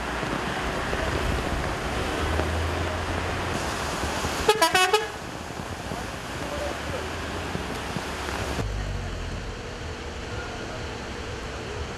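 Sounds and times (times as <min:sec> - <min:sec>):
heavy rain on wet pavement: 0:00.0 - 0:11.9.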